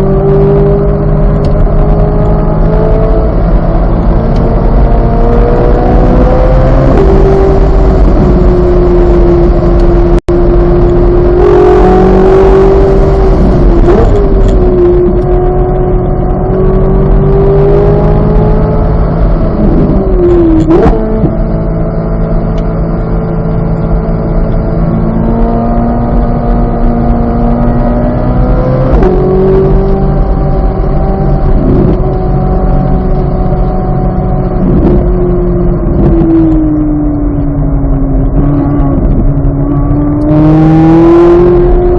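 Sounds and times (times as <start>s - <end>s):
car engine running hard: 0.0s - 41.9s.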